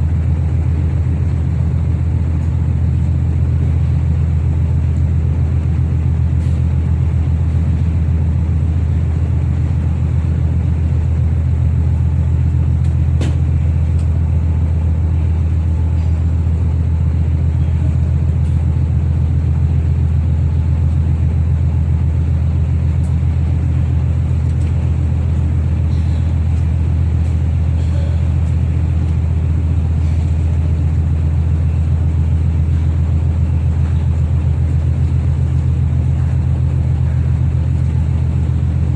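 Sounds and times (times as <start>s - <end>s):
ferry engines droning: 0.0s - 38.9s.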